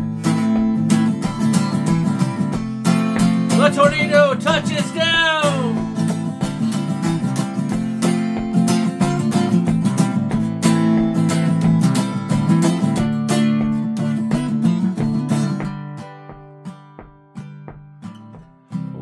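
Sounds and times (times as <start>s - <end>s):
acoustic guitar strummed: 0.0s - 19.0s.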